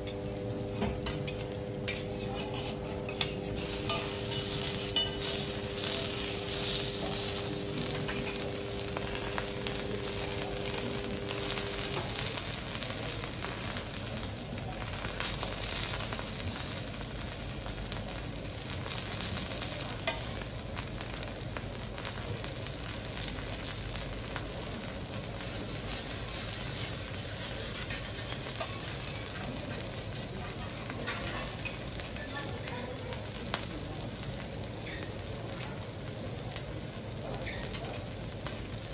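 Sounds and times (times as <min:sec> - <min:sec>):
food sizzling on griddle: 0:00.0 - 0:38.9.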